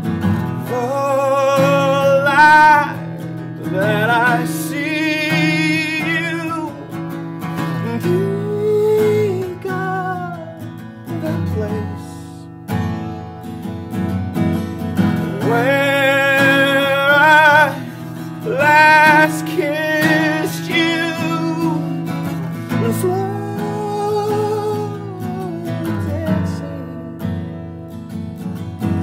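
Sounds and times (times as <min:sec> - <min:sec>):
strummed acoustic guitar: 0:00.0 - 0:29.0
man singing with vibrato: 0:00.5 - 0:12.5, 0:15.2 - 0:27.4.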